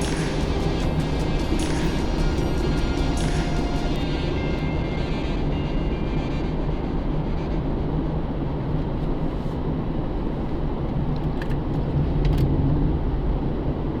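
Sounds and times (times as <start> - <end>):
car engine running: 0.0 - 11.9
road and tyre rumble: 0.0 - 14.0.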